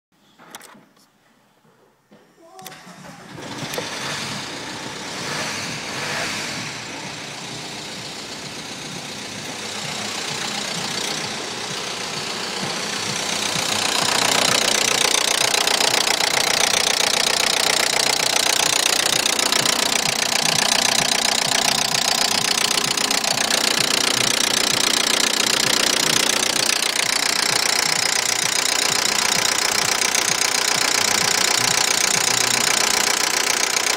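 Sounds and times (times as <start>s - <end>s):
diesel engine starting and idling: 2.6s - 33.9s.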